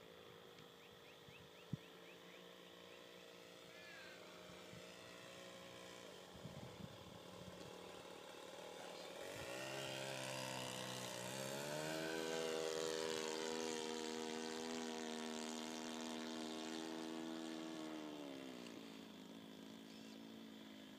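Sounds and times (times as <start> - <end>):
model airplane motor passing: 0.0 - 20.9.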